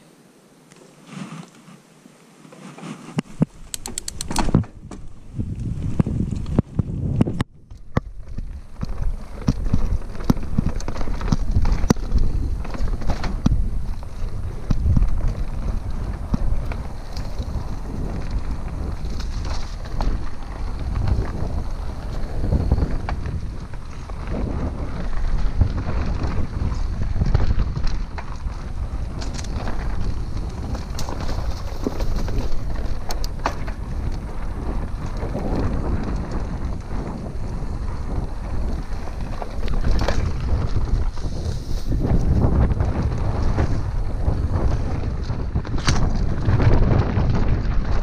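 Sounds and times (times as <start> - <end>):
bike tyres rumbling on dirt: 2.5 - 48.0
bike rattling over bumps: 3.2 - 48.0
wind buffeting microphone: 3.3 - 48.0.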